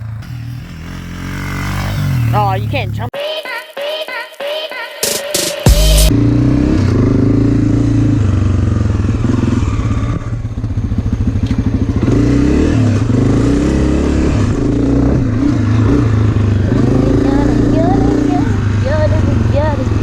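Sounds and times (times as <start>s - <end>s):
dirt bike engine revving: 0.0s - 3.1s, 5.3s - 20.0s.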